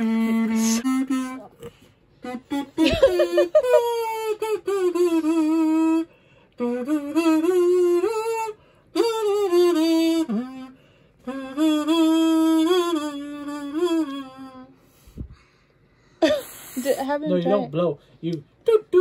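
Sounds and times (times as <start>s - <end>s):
child playing kazoo: 0.0s - 15.6s, 16.2s - 17.2s.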